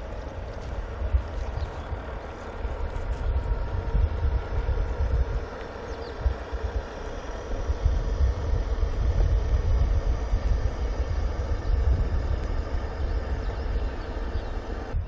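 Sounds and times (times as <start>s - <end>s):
model boat motor whining: 0.0s - 15.0s.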